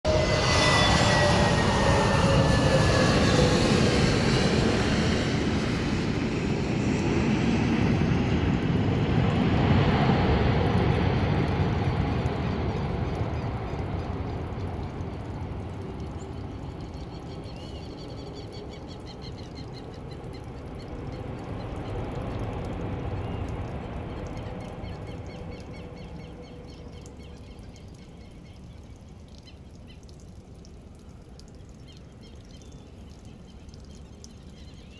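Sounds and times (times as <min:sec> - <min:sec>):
jet engine roar with whine: 0:00.0 - 0:28.0.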